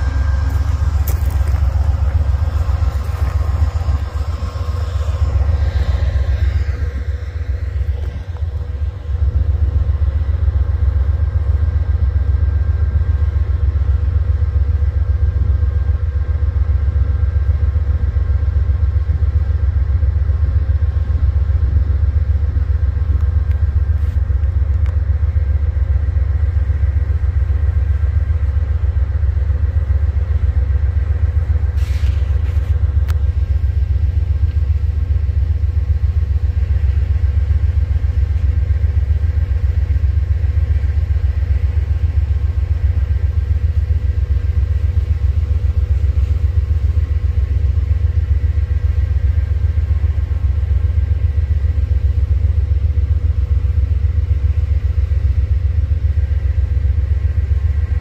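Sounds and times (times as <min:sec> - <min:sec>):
faint steady whine: 0:00.0 - 0:58.0
freight train rumbling past: 0:00.0 - 0:58.0.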